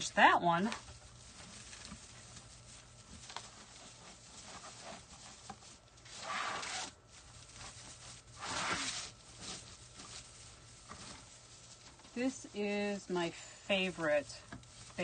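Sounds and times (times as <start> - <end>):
craft materials rustling: 0.0 - 15.0.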